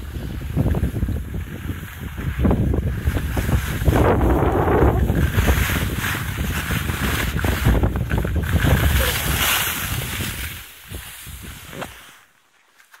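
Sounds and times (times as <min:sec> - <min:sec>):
wind buffeting the microphone: 0:00.0 - 0:12.0
skis hissing over snow: 0:00.0 - 0:13.0.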